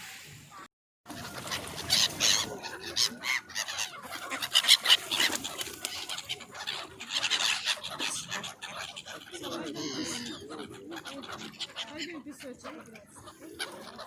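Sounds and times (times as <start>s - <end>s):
waterbirds calling: 0.5s - 14.0s.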